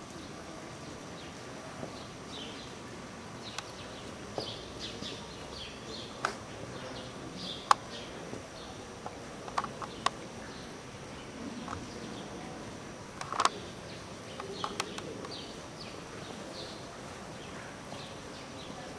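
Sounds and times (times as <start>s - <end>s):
small birds chirping: 0.0s - 18.9s
steady background hiss: 0.0s - 18.9s.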